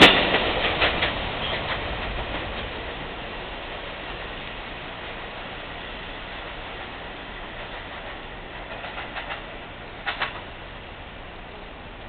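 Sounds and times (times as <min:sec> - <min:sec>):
subway train rail noise: 0:00.0 - 0:12.0.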